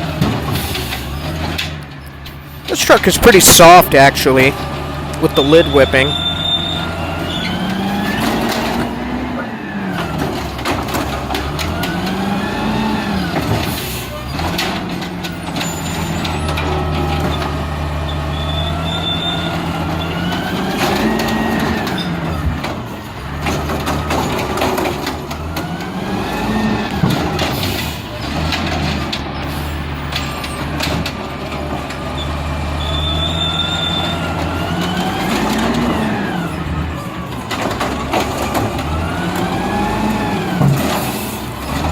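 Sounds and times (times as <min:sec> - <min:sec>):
garbage truck engine revving: 0:00.0 - 0:41.9.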